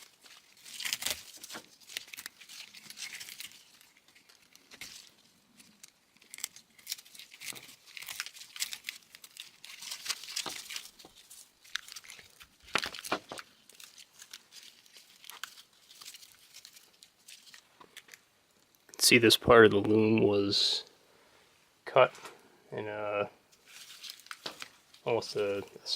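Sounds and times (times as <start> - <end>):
plastic wiring loom crinkling: 0.0 - 19.0, 23.5 - 25.9.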